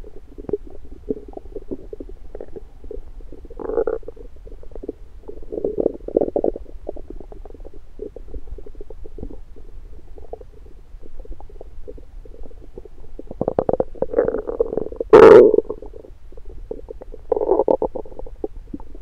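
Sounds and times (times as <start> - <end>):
stomach gurgles: 0.0 - 19.0.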